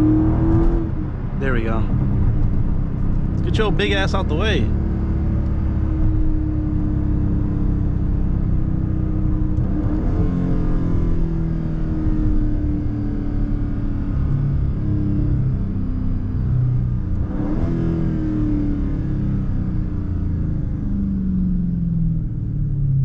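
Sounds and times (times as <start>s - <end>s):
car engine running from inside: 0.0s - 23.0s.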